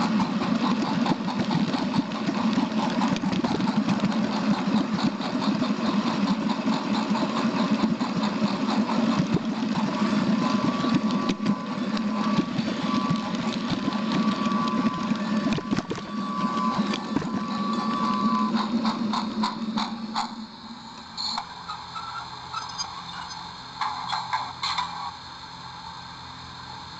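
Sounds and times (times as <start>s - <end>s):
small train engine pulsing: 0.0s - 26.9s.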